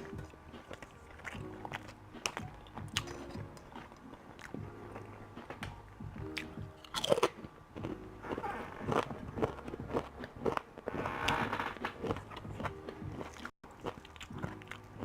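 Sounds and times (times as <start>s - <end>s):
person chewing and biting food: 0.0s - 5.6s, 6.2s - 15.0s.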